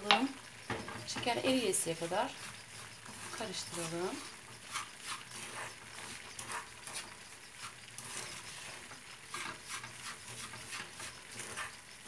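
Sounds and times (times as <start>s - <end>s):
mixture sizzling in a pan: 0.0s - 12.0s
wooden spoon scraping a pan: 0.0s - 12.0s.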